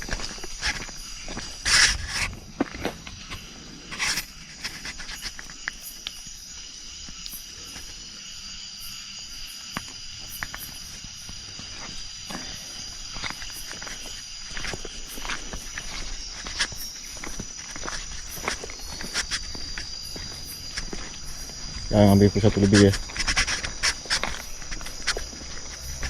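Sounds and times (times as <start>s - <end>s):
insects chirring: 0.0s - 26.0s
small ticks and rustles: 0.0s - 26.0s.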